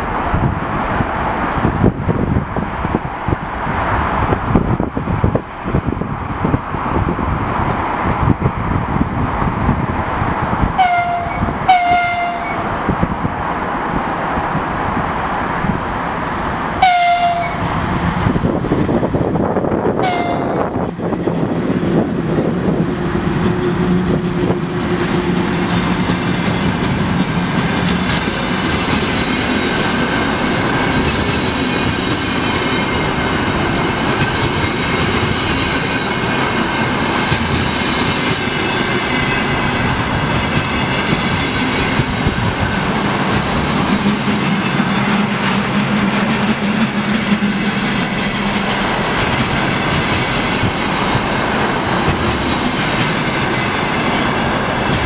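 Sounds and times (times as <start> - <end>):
locomotive hum: 0.0 - 55.0
train wheels rumbling on rails: 0.0 - 55.0
clickety-clack over rail joints: 0.3 - 55.0.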